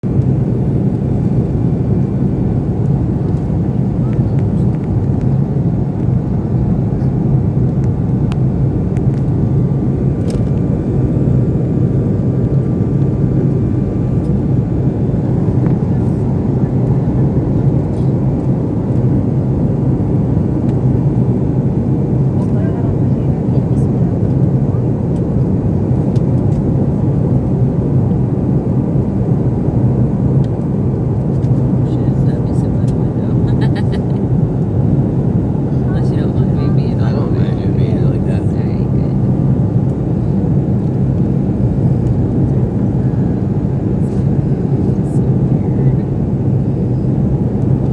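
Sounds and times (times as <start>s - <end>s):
vehicle rumbling in motion: 0.0s - 27.2s, 28.3s - 47.9s.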